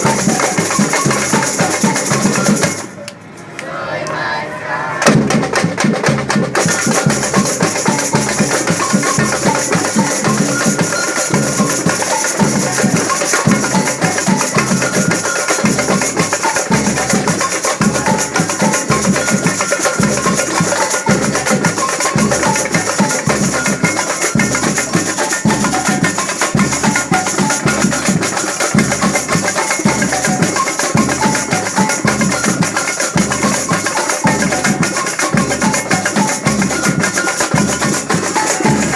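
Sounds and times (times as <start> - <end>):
drum and percussion rhythm: 0.0 - 4.2, 5.0 - 38.9
band playing: 4.3 - 38.9.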